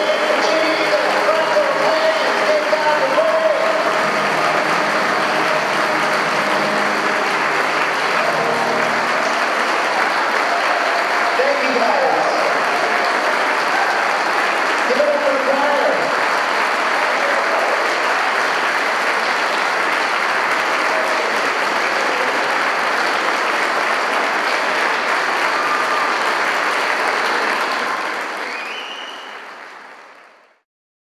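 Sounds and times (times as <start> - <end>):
crowd applauding: 0.0 - 30.6.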